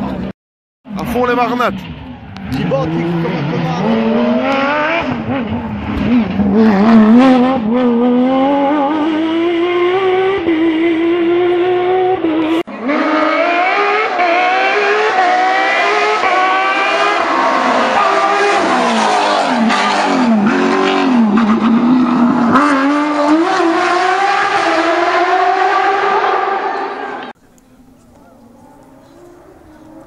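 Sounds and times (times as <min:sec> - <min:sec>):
car engine revving through gears: 0:01.8 - 0:27.3, 0:28.4 - 0:30.0.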